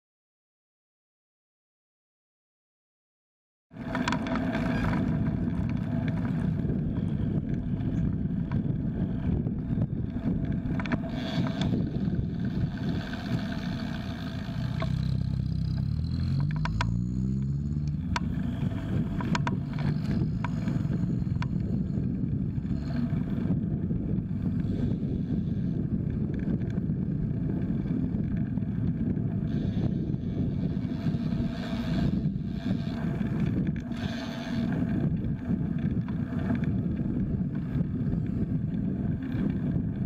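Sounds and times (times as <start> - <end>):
road and traffic noise: 3.7 - 40.0
vehicle engine accelerating: 3.8 - 40.0
wind buffeting microphone: 3.8 - 40.0.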